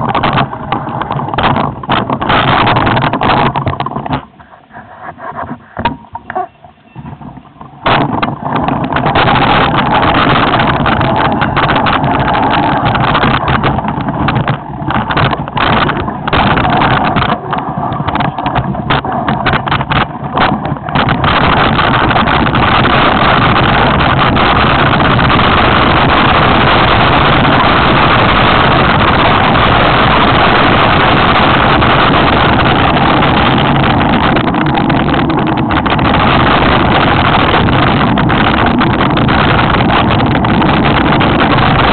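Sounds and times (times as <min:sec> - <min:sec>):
bike tyre and trail noise: 0:00.0 - 0:41.9
wind rushing on microphone: 0:00.0 - 0:41.9.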